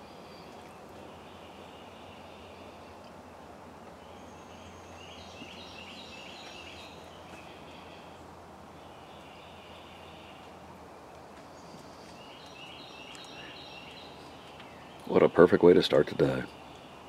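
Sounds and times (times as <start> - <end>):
birds chirping: 0.0 - 17.0
low outdoor hum: 0.0 - 17.0.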